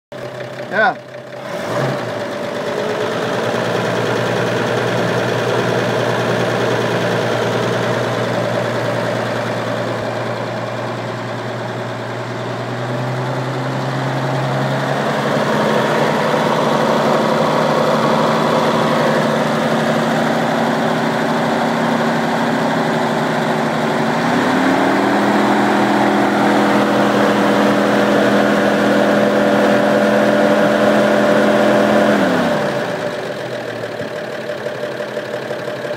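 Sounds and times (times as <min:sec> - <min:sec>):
truck engine idling: 0:00.1 - 0:35.9.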